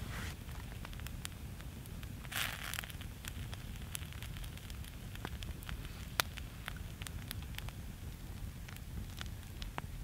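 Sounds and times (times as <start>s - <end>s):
campfire crackling: 0.0s - 10.0s
low rumble of flames: 0.0s - 10.0s.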